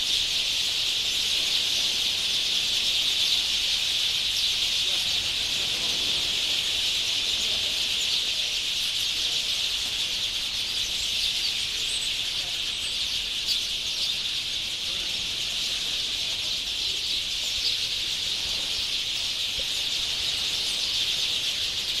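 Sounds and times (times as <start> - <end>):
flock of birds chirping: 0.0 - 22.0.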